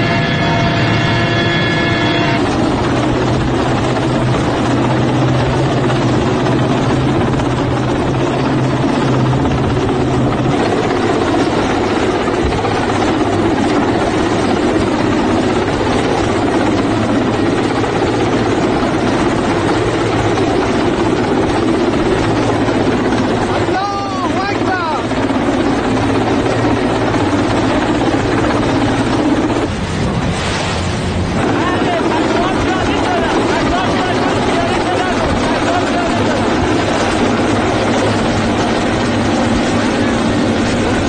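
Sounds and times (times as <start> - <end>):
helicopter rotor and engines: 0.0 - 41.0
steady pitched whine: 0.0 - 41.0.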